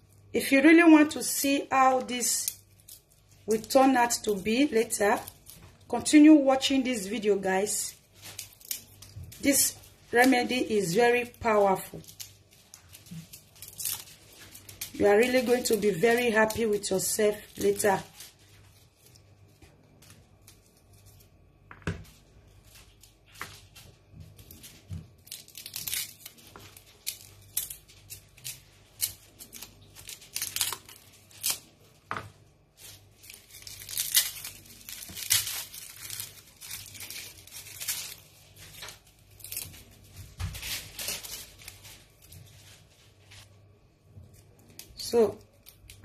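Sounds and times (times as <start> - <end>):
garlic skins crackling and tearing: 1.0 - 43.5, 44.2 - 46.0.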